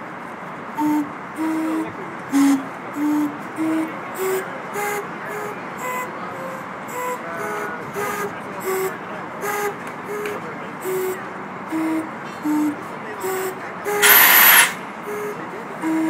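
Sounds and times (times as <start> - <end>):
calliope whistle toots: 0.8 - 16.0.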